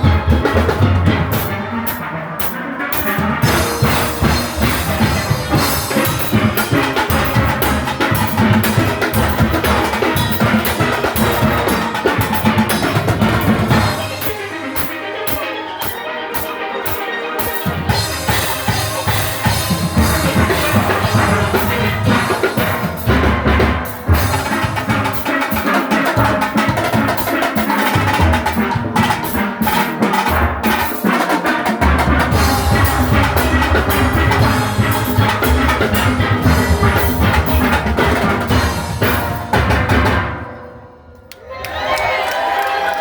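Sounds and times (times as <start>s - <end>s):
drum kit and percussion beat: 0.0s - 40.6s
steelpans playing: 0.0s - 41.4s.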